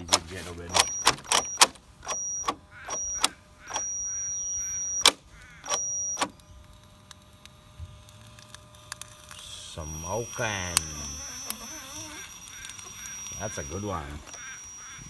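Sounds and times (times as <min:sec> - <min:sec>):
motor clicks: 0:00.0 - 0:15.0
motor whining: 0:00.0 - 0:15.0.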